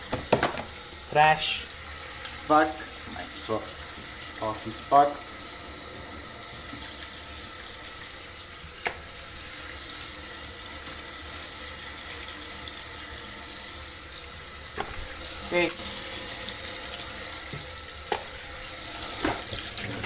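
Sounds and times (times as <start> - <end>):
water running from a tap: 0.0 - 20.0.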